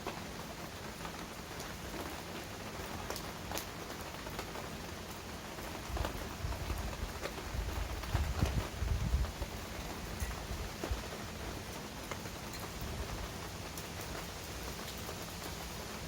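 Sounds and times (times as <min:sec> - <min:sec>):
heavy rain falling: 0:00.0 - 0:16.0
raindrops ticking: 0:00.0 - 0:16.0.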